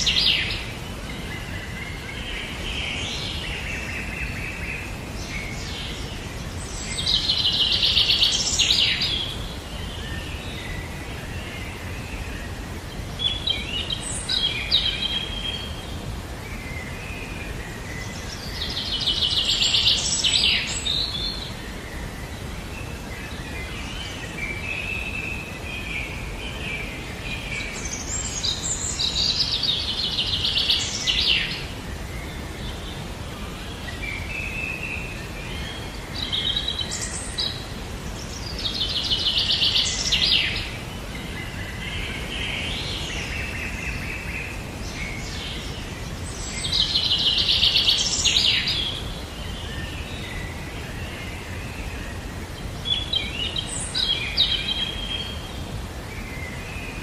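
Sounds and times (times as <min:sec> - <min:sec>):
bird singing trilling phrases: 0:00.0 - 0:57.0
steady outdoor hiss: 0:00.0 - 0:57.0.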